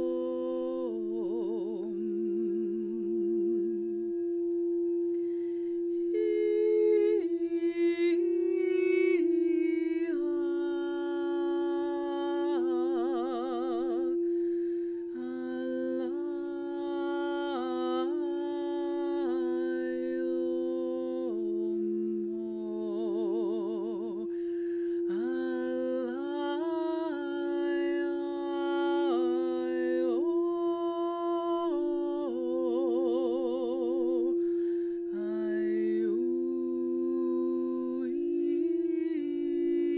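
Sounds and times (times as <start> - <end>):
woman singing wordlessly: 0.0 - 4.5, 5.9 - 14.2, 15.0 - 24.4, 25.0 - 39.9
singing bowl ringing: 0.0 - 39.9.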